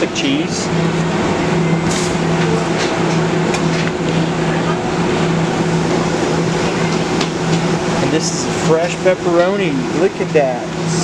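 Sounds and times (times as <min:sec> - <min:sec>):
ventilation hum: 0:00.0 - 0:11.0.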